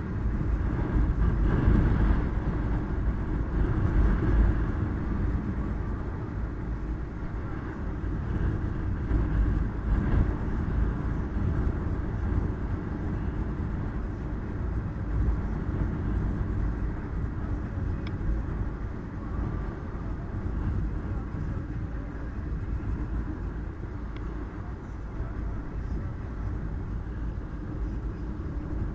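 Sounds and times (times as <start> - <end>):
car engine and tyre rumble: 0.0 - 28.9.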